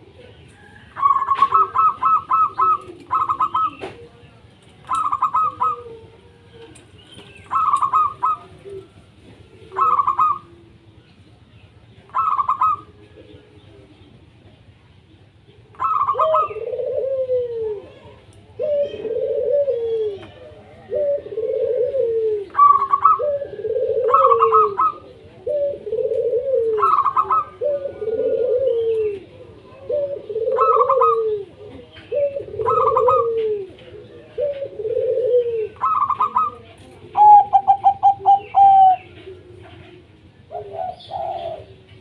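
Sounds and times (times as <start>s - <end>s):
doves cooing: 0.0s - 42.0s.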